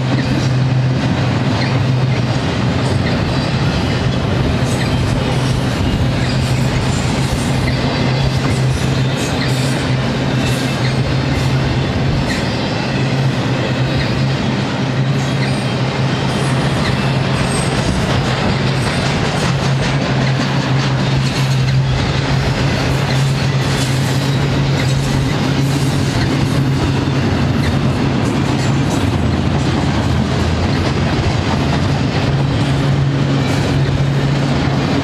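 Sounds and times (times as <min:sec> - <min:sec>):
steel wheels clattering on rail: 0:00.0 - 0:35.0.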